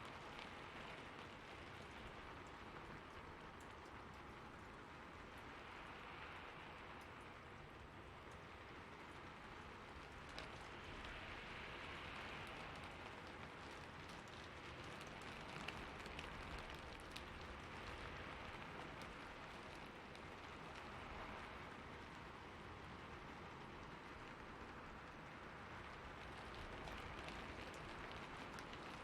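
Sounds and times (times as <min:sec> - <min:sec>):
raindrops ticking: 0:00.0 - 0:29.0
steady rain hissing: 0:00.0 - 0:29.0.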